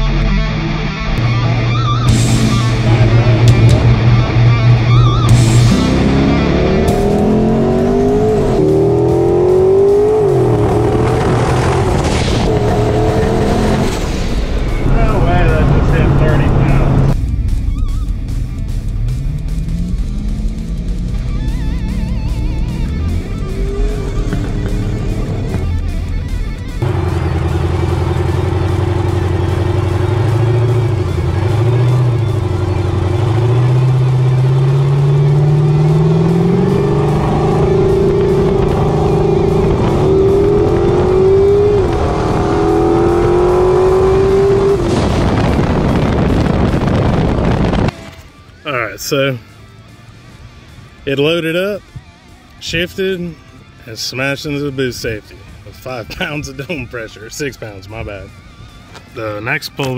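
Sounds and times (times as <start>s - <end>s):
drag car engine at full throttle: 0.0s - 48.6s.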